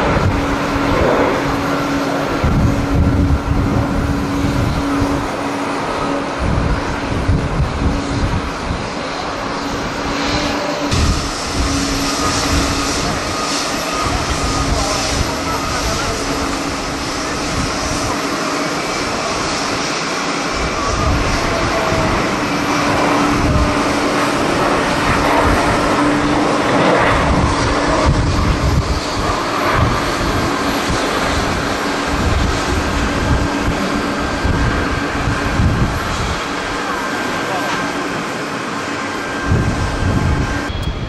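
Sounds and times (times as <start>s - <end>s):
jet engines roaring: 0.0s - 41.0s
wind buffeting microphone: 0.0s - 41.0s.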